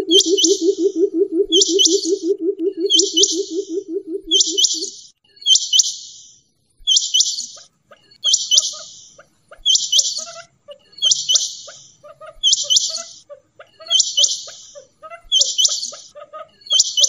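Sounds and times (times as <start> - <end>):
quail calling: 0.0 - 5.0, 6.9 - 17.0.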